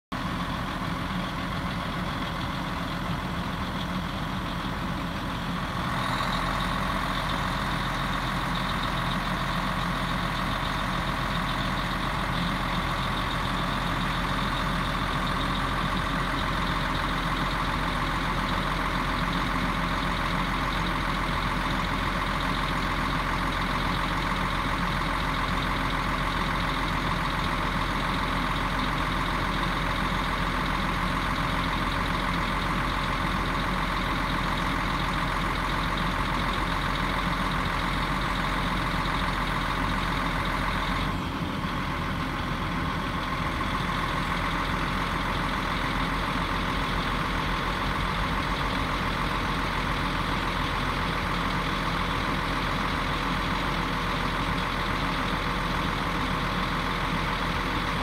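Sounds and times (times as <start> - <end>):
lorry diesel engine running: 0.0 - 58.0.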